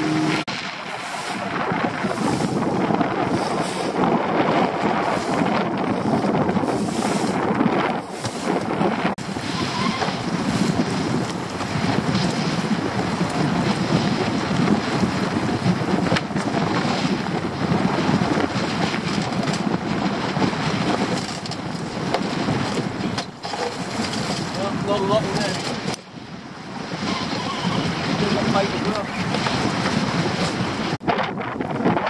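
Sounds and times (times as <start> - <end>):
waves splashing against boat hull: 0.0 - 32.0
wind buffeting microphone: 0.0 - 32.0.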